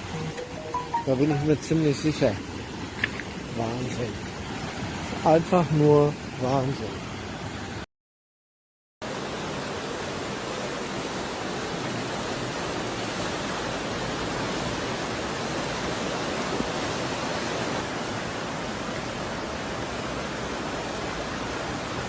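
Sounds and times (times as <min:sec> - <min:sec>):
floodwater rushing: 0:00.0 - 0:07.8, 0:09.0 - 0:22.0.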